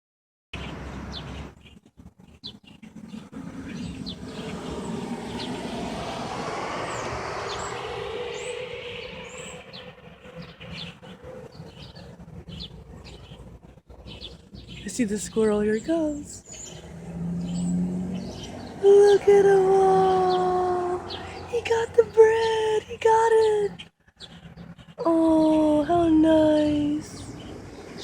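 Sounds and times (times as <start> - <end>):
small birds chirping: 0.6 - 28.0
vehicle passing by: 2.8 - 12.9, 13.5 - 28.0.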